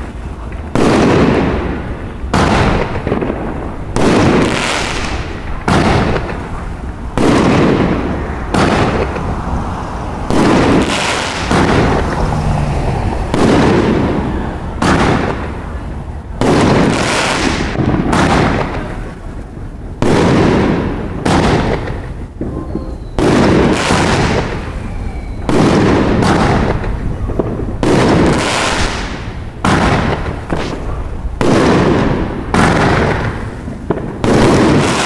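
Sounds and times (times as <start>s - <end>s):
crackle and hiss of fireworks: 0.0s - 35.0s
fireworks bursting: 0.0s - 35.0s.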